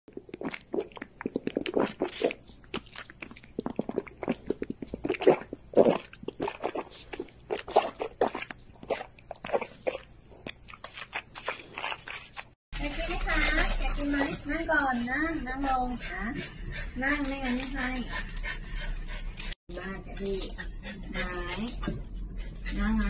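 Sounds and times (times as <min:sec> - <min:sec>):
puppies suckling: 0:00.2 - 0:19.6.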